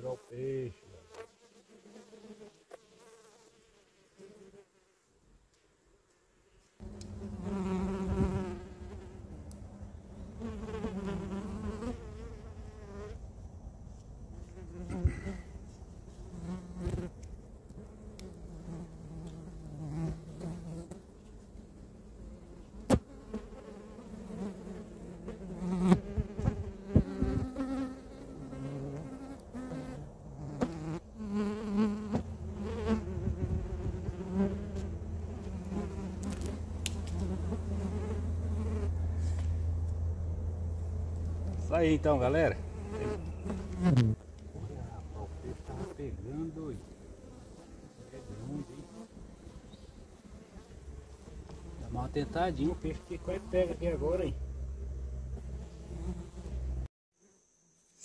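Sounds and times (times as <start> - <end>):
flying insects buzzing: 0.0 - 5.6, 6.4 - 58.0.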